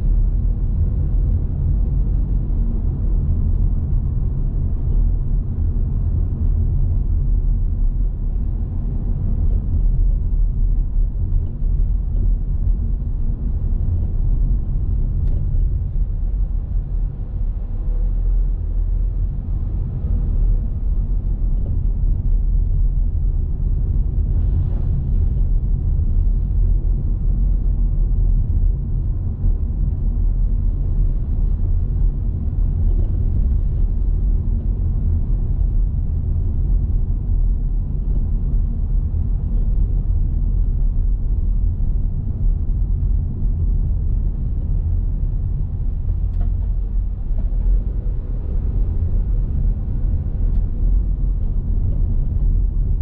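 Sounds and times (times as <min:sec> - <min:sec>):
car engine rumble: 0:00.0 - 0:53.0
road noise: 0:04.5 - 0:53.0.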